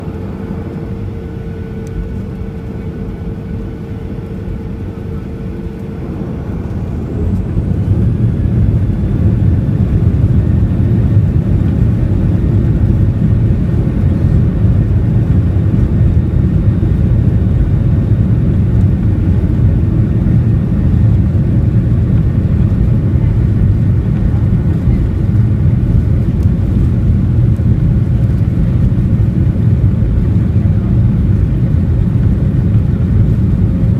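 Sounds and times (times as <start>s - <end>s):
aeroplane engine whine: 0.0s - 33.9s
aeroplane engines roaring: 0.0s - 33.9s.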